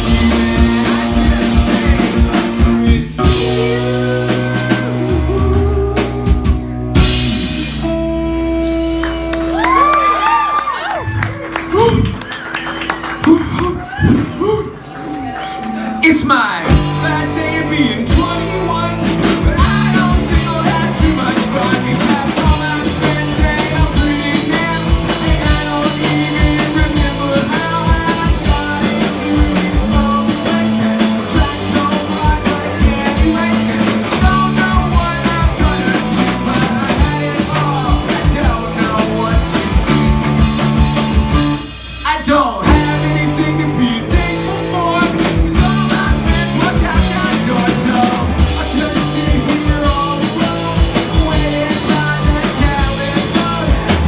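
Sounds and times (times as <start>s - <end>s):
person singing: 0.0s - 7.9s, 9.6s - 12.2s, 13.2s - 54.0s
drum kit: 0.0s - 15.3s, 16.1s - 54.0s
guitars: 0.0s - 54.0s.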